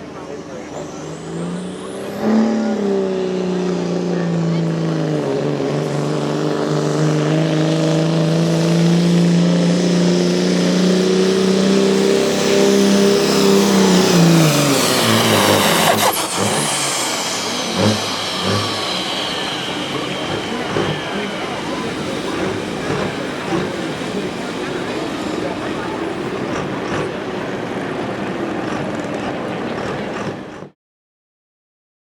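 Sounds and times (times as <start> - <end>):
high-pitched whines: 0.0 - 27.1
engine at high revs: 0.0 - 30.8.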